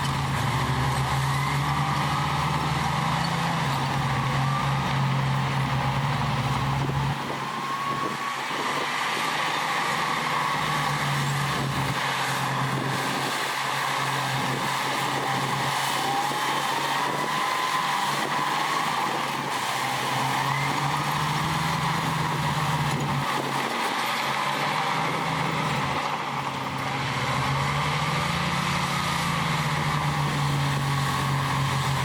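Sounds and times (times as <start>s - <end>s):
diesel machinery running: 0.0s - 32.0s.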